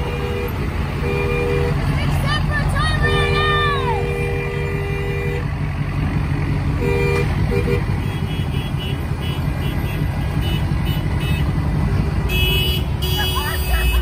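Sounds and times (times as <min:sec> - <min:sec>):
car horn: 0:00.0 - 0:05.6, 0:06.7 - 0:14.0
truck engine rumbling: 0:00.0 - 0:14.0.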